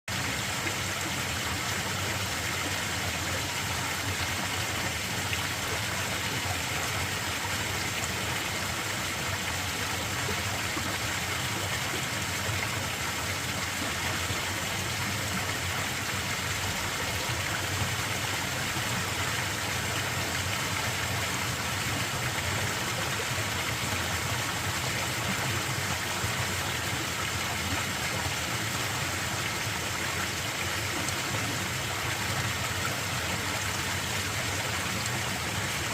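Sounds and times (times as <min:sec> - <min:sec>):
stream water rushing: 0:00.1 - 0:35.9.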